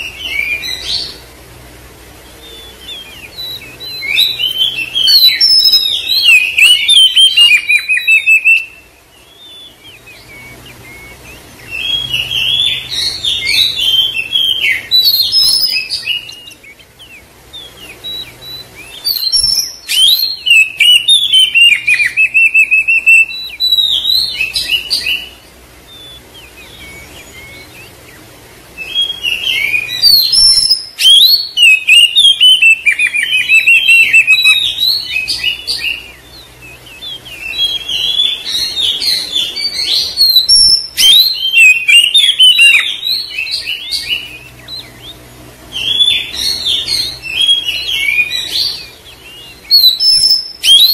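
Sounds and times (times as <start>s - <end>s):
bird singing whistles and chirps: 0.0s - 1.3s, 2.2s - 50.9s.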